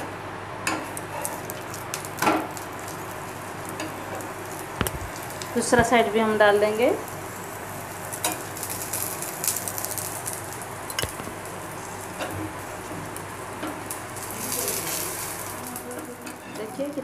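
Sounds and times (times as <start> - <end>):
oil sizzling under flatbread: 0.0 - 17.0.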